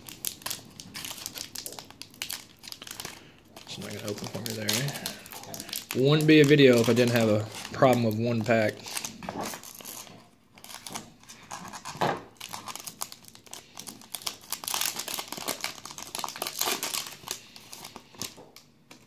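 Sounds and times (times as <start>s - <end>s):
wrapper crinkling and tearing: 0.0s - 19.0s.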